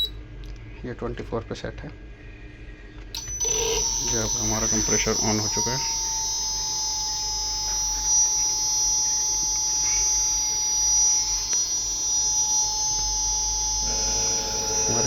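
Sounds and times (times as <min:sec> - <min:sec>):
low mains hum: 0:00.0 - 0:15.0
electrical whine: 0:02.0 - 0:15.0.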